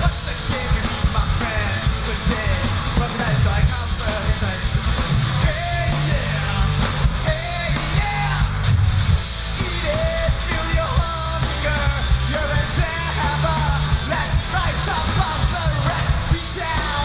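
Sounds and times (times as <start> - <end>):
man singing and shouting: 0.0 - 8.8, 9.4 - 17.0
punk rock band playing: 0.0 - 17.0.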